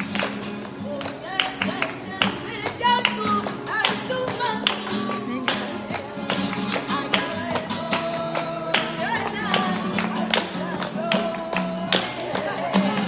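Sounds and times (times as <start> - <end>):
acoustic guitar playing: 0.0 - 13.0
sharp hand claps: 0.0 - 13.0.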